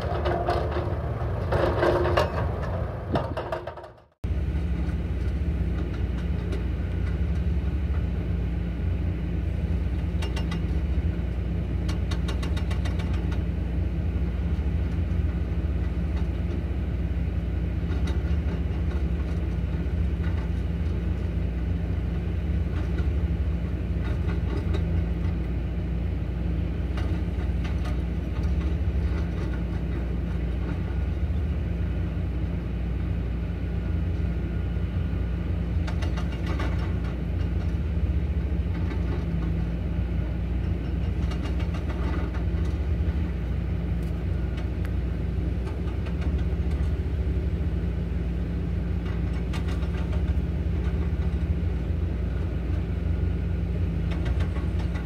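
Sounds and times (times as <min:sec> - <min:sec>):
excavators running: 0:00.0 - 0:55.0.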